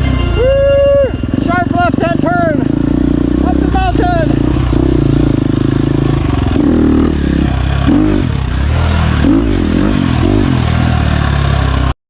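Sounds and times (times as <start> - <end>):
dirt bike engine revving: 0.0 - 11.9.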